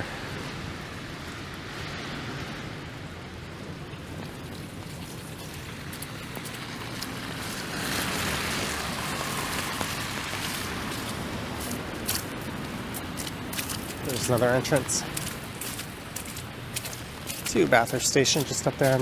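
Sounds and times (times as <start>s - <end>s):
rain hiss: 0.0s - 19.0s
slushy traffic: 0.0s - 19.0s.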